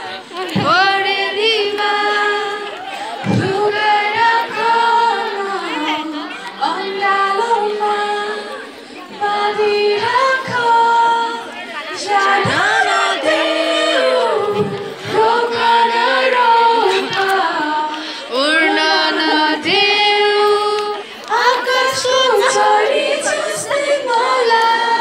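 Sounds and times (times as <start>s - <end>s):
woman singing into microphone: 0.0s - 25.0s.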